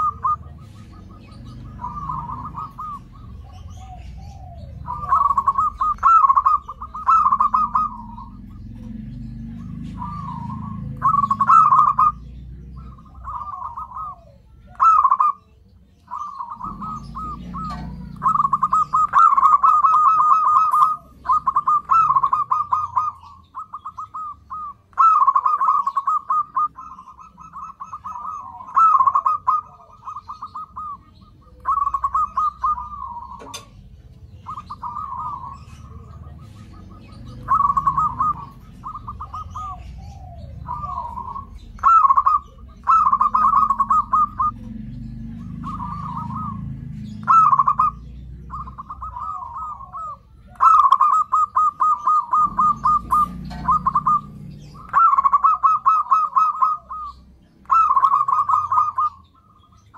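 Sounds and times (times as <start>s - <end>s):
dove trilled cooing: 0.0s - 59.9s.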